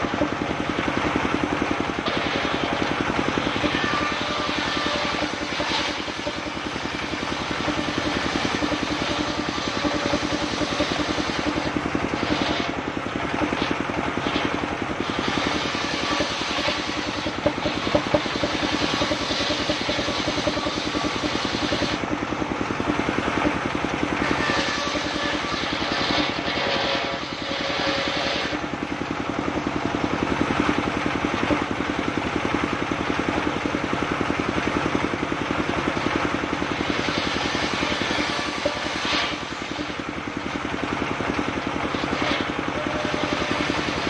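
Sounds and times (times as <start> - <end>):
sawmill engine pulsing: 0.0 - 44.0.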